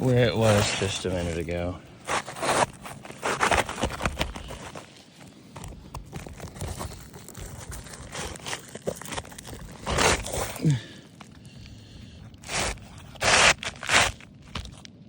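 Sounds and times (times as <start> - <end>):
shingle scraping against shingle: 0.0 - 10.8, 12.4 - 14.8.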